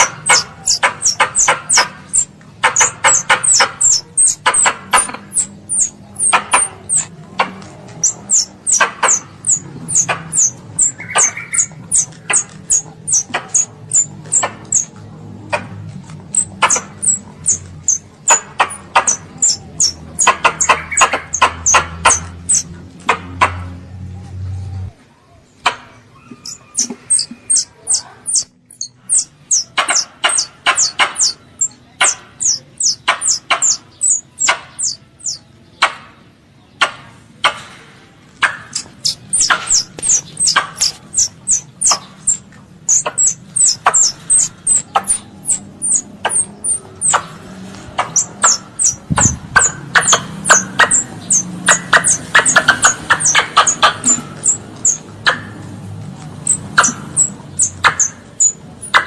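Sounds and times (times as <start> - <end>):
squirrel chirping: 0.0 - 23.8, 25.6 - 35.9, 38.4 - 59.0.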